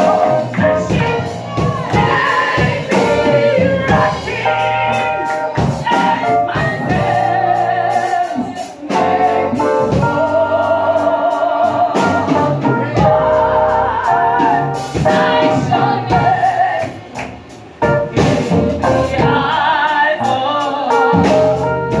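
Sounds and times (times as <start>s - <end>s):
woman singing gospel through pa: 0.0s - 17.2s, 18.4s - 21.6s
drum kit: 0.0s - 22.0s
keyboard chords: 0.0s - 22.0s.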